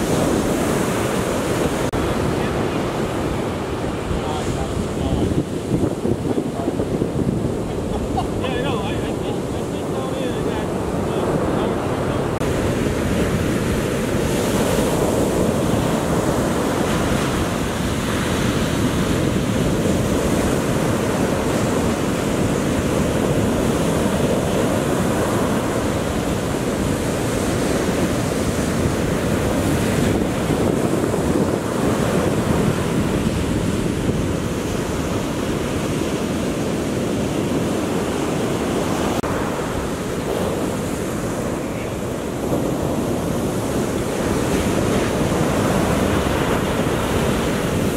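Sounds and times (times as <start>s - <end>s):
surf breaking on beach: 0.0s - 47.9s
wind on microphone: 0.0s - 47.9s.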